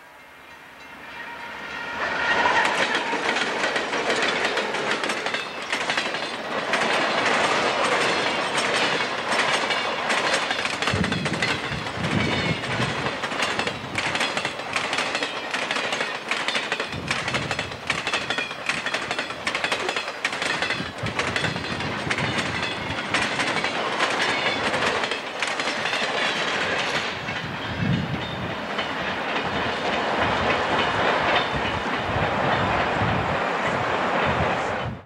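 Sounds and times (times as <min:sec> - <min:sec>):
train rumble: 0:00.0 - 0:35.0
train wheels clacking: 0:00.8 - 0:35.0.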